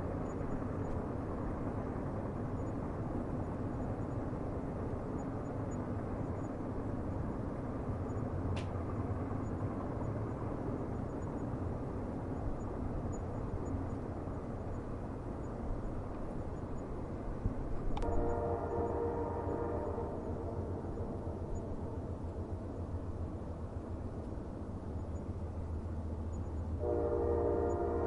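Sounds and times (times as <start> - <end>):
distant train rumble: 0.0 - 28.0.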